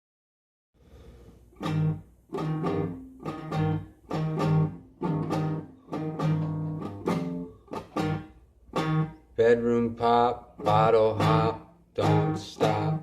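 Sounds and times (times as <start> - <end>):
guitar strumming chords: 1.6 - 13.0.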